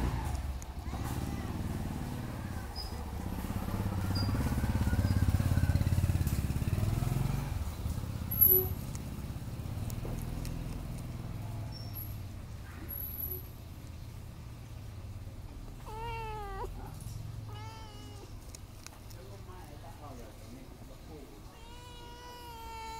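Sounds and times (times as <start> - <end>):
vehicle engine running: 0.0 - 18.5.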